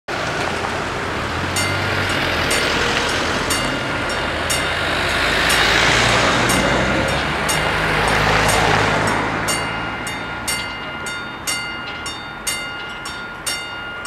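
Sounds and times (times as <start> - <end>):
cars driving over crossing: 0.1 - 14.0
crossing warning bells ringing: 1.0 - 14.0.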